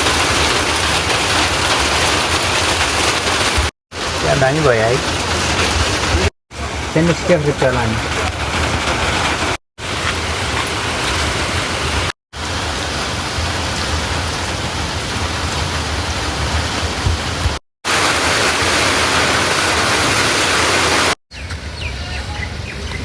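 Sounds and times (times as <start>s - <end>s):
heavy rain pouring: 0.0s - 21.2s.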